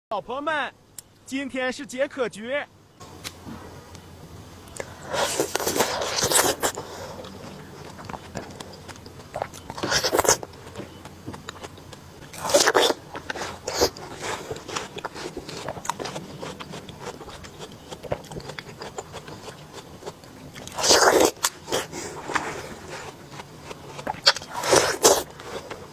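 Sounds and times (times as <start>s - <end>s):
crackling chewing: 3.0s - 25.9s
crunchy fruit bites: 3.0s - 25.9s.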